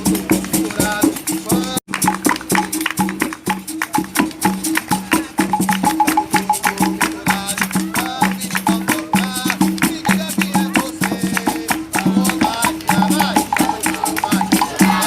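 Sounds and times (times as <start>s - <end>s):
voices singing: 0.0s - 3.1s, 3.9s - 15.0s
berimbau: 0.0s - 15.0s
rattling tapping percussion: 0.0s - 15.0s.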